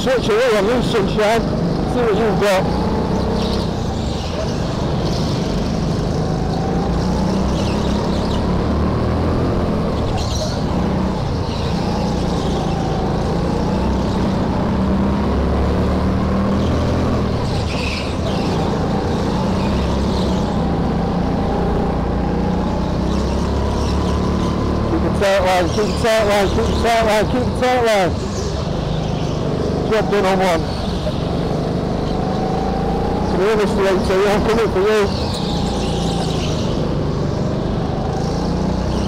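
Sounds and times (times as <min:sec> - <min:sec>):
go-kart motor: 0:00.0 - 0:39.0.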